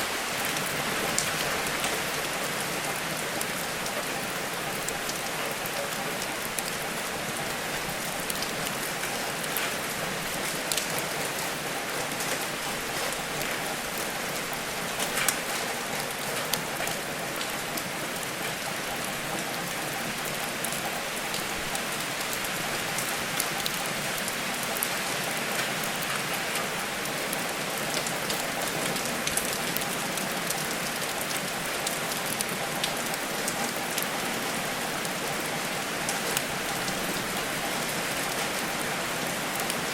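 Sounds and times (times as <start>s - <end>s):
steady rain: 0.0s - 39.9s
wood fire crackling: 0.1s - 35.4s.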